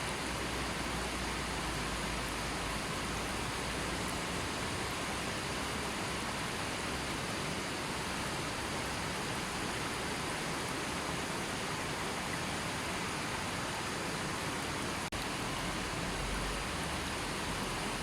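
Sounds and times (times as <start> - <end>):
river flowing: 0.0 - 18.0.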